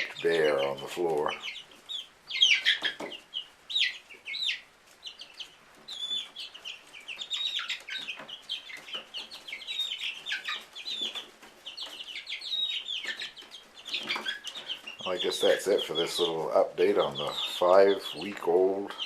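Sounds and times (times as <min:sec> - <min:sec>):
chicks pecking at corn cob: 0:00.0 - 0:19.0
chicks peeping and trilling: 0:00.0 - 0:19.0.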